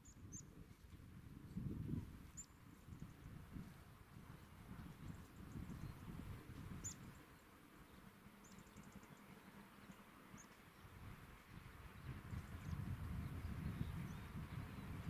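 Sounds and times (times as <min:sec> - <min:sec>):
low wind rumble on microphone: 0:00.0 - 0:15.0.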